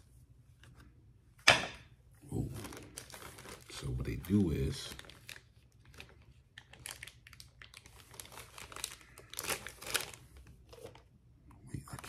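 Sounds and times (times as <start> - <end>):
crinkling: 2.3 - 12.0.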